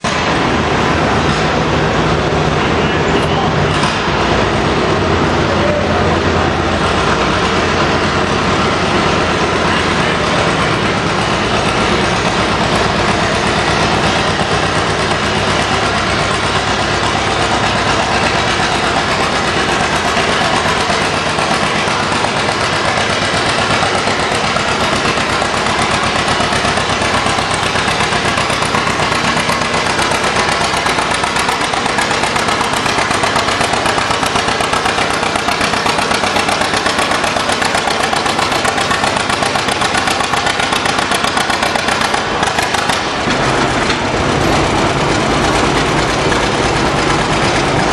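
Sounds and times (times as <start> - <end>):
tractor engine running under load: 0.0 - 47.9.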